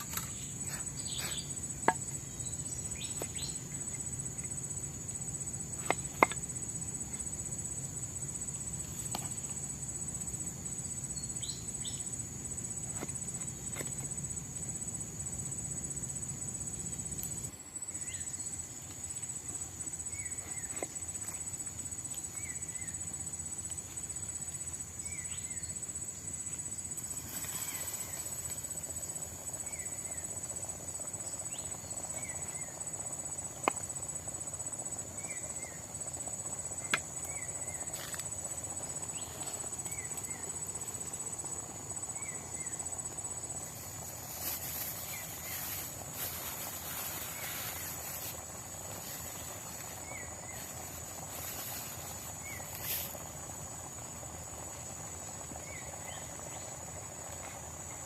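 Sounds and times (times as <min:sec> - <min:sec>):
forest insects chorus: 0:00.0 - 0:58.0.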